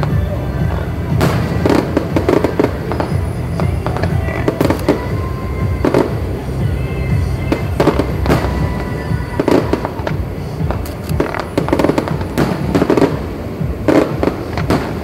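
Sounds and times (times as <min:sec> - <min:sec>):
fireworks sharp bangs: 0:00.0 - 0:15.0
low rumble of bursts: 0:00.0 - 0:15.0.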